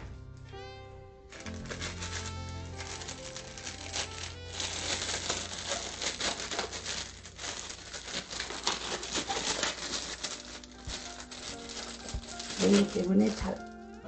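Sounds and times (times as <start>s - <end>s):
soft background music: 0.0s - 14.0s
plastic gloves crinkling: 1.2s - 14.0s.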